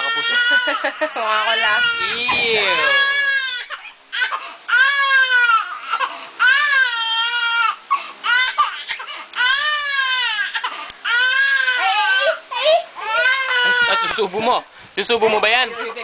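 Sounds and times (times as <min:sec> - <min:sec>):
infant crying: 0:00.0 - 0:14.5, 0:15.3 - 0:16.0.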